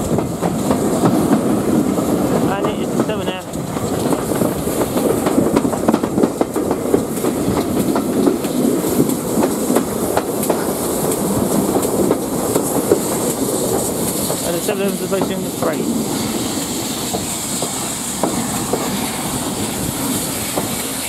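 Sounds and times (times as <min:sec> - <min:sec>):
rush of air at window: 0:00.0 - 0:21.0
train wheels clicking on rail joints: 0:00.0 - 0:21.0.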